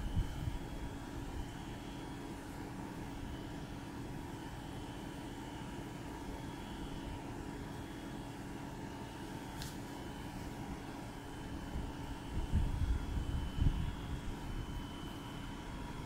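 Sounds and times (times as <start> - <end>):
air pump humming: 0.0 - 16.0
faint constant tones: 0.0 - 16.0.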